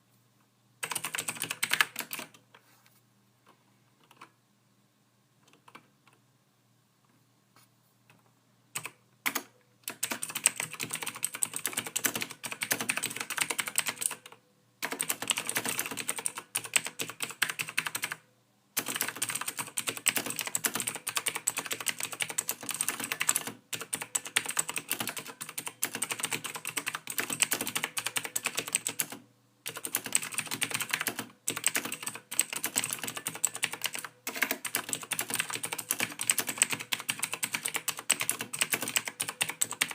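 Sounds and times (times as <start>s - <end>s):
typing on computer keyboard: 0.8s - 2.4s, 5.4s - 6.2s, 8.8s - 18.2s, 18.8s - 39.9s.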